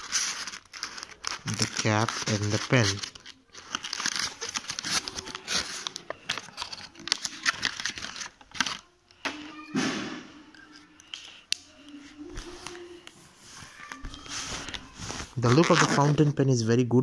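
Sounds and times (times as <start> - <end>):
pen handling rustling: 0.0 - 8.9, 10.5 - 16.4.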